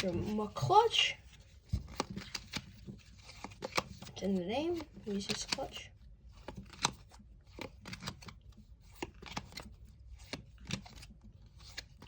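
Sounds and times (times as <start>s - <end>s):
trading cards flipped by hand: 1.6s - 5.8s, 6.4s - 12.0s.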